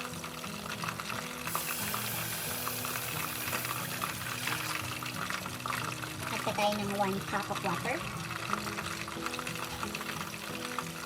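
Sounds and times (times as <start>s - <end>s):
background music: 0.0s - 11.0s
roux sizzling in a pan: 0.0s - 11.0s.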